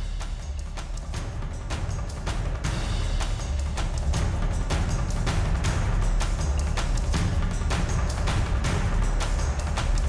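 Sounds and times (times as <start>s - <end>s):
heavy low bass: 0.0s - 10.0s
music with deep drum beat: 0.0s - 10.0s.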